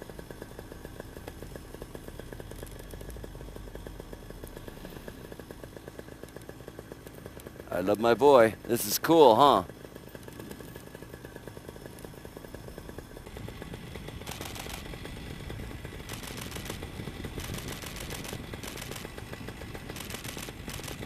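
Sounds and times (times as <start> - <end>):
paramotor engine running: 0.0 - 21.0.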